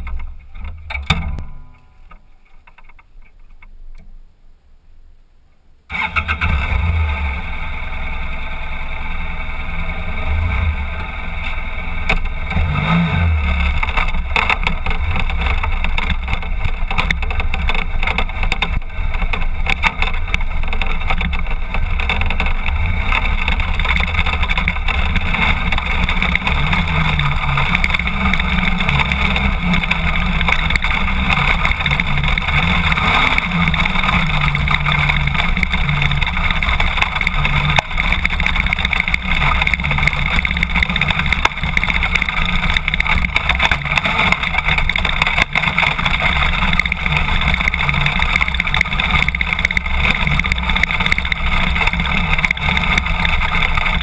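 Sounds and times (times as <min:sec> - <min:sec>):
motorcycle engine running: 0:00.0 - 0:02.8, 0:05.9 - 0:54.0
tyres on gravel: 0:00.0 - 0:04.1, 0:05.9 - 0:54.0.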